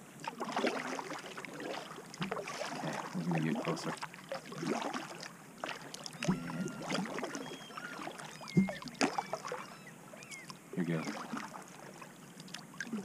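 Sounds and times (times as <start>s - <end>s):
paddle splashing and dripping: 0.1s - 13.0s.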